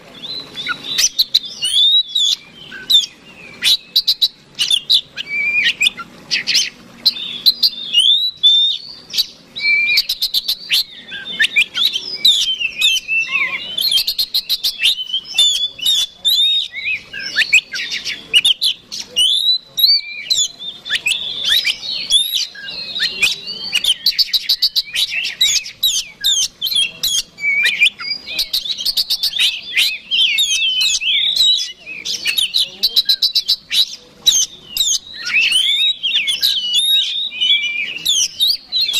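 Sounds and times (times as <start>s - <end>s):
bird singing with chattering rattles: 0.0s - 38.9s.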